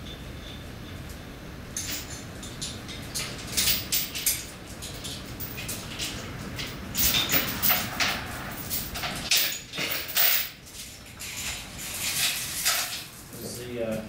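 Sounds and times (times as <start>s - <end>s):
metal chain clanking: 1.8s - 13.2s.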